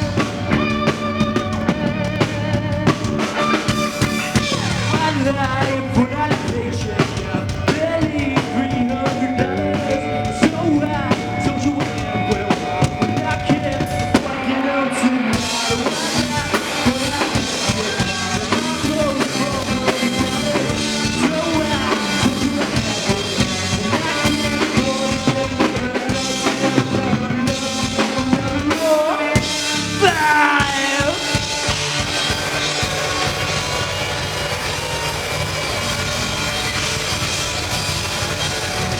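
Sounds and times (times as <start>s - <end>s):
drum kit: 0.0s - 38.9s
rock band playing: 0.0s - 38.9s.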